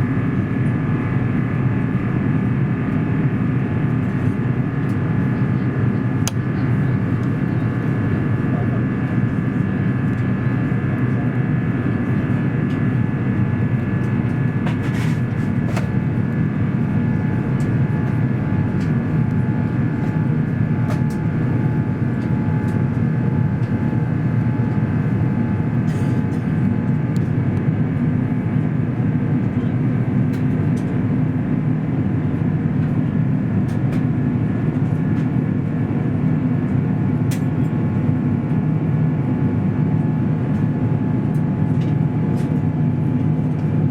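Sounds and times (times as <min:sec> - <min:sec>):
jet engines rushing and whining: 0:00.0 - 0:43.9.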